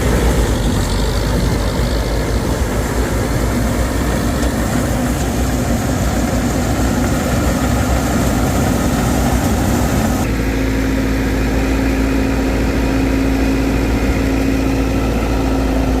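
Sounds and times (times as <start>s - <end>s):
harvesting machine engine running: 0.0s - 16.0s.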